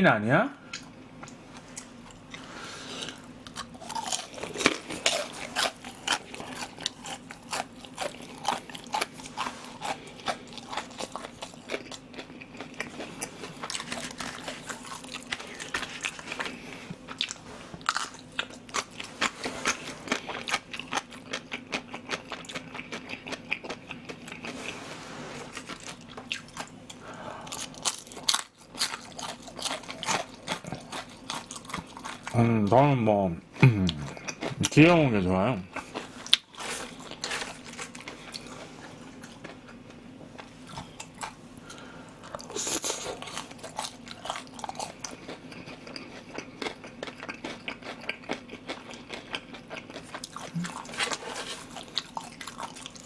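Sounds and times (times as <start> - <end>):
crunching and chewing fried food: 0.7 - 32.9, 33.8 - 53.0.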